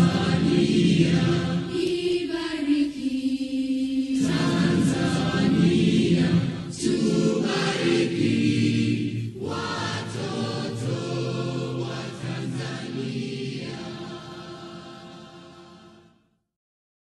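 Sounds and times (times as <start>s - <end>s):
choir singing: 0.0s - 16.3s.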